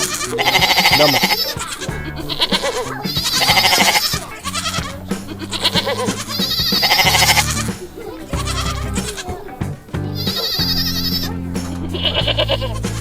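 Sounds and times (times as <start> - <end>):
goats bleating: 0.0 - 12.8.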